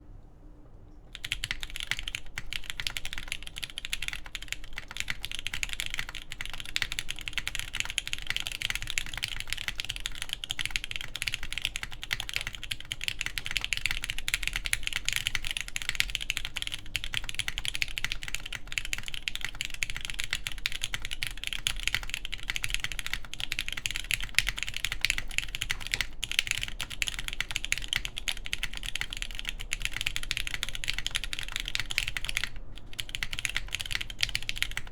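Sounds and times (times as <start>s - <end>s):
fast typing on mechanical keyboard: 1.1s - 34.9s.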